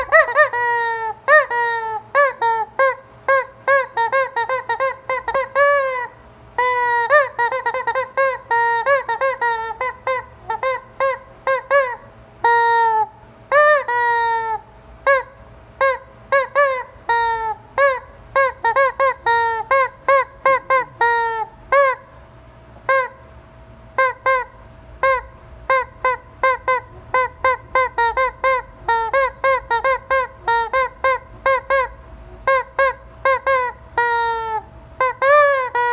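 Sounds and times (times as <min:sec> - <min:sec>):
rubber chicken toy squawking: 0:00.0 - 0:22.2, 0:22.9 - 0:23.3, 0:23.9 - 0:35.9.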